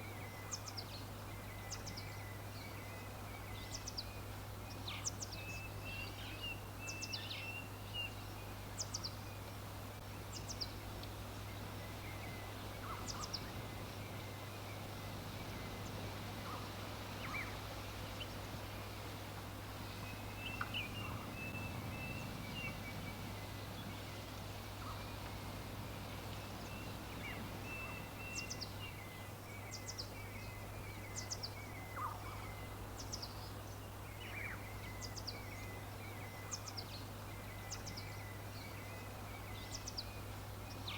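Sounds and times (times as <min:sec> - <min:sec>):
background hiss: 0:00.0 - 0:40.9.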